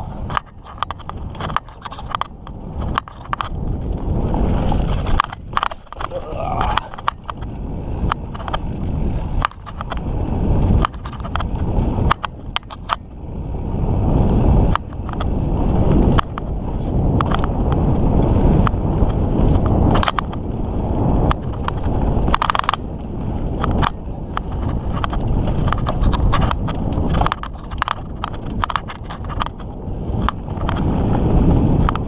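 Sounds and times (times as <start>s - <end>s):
bike clicks and rattles: 0.0s - 32.0s
tyres rumbling on dirt: 0.0s - 32.0s
wind on microphone: 0.0s - 32.0s.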